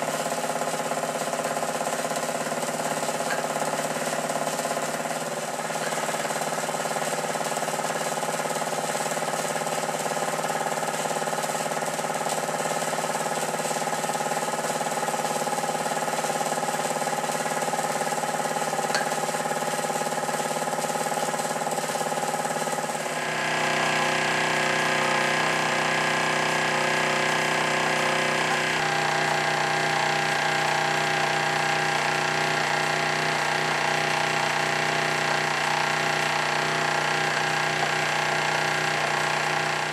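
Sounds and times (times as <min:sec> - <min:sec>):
model steam engine running: 0:00.0 - 0:39.9.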